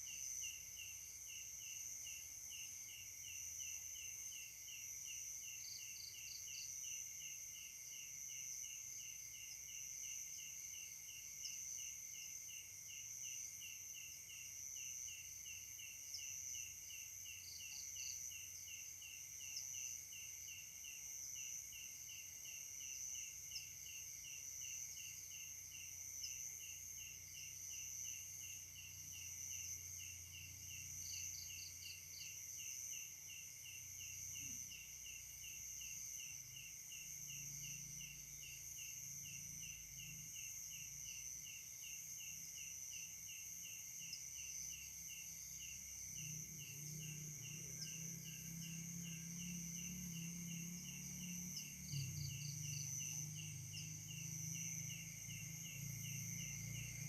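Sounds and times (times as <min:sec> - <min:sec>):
insects buzzing and chirping: 0:00.0 - 0:57.0.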